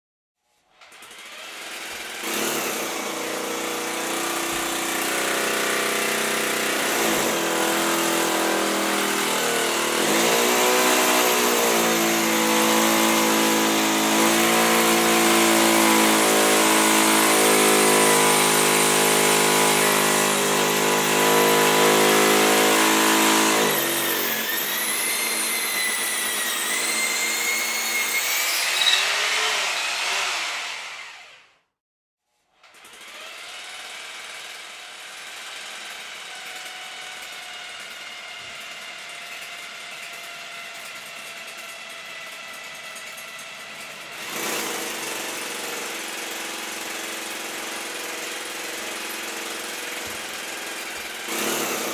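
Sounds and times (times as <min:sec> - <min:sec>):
electric hammer drill whining: 0:00.8 - 0:31.5, 0:32.6 - 0:51.9.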